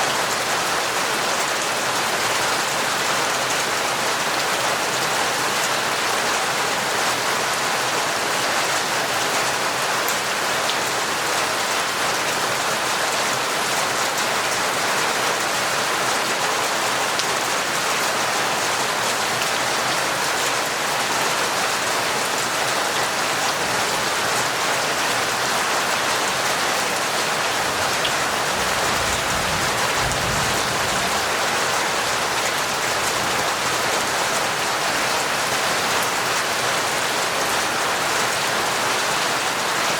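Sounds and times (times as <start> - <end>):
torrential rain: 0.0 - 39.9.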